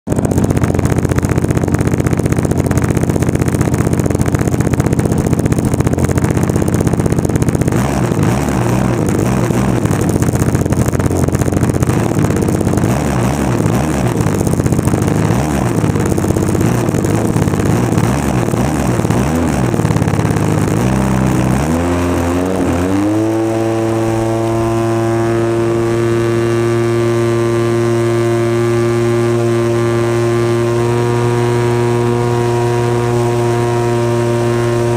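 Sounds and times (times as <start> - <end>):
model plane engine running: 0.1 - 34.9.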